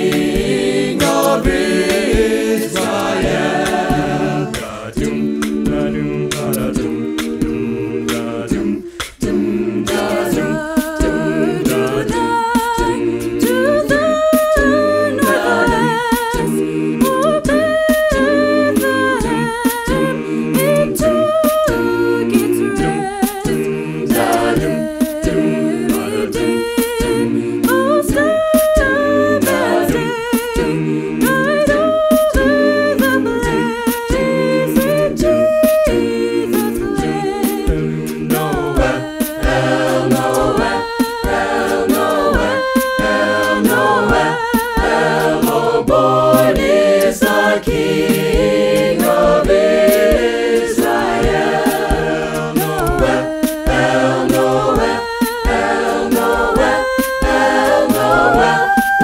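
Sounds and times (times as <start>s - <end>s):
a cappella group singing: 0.0s - 59.0s.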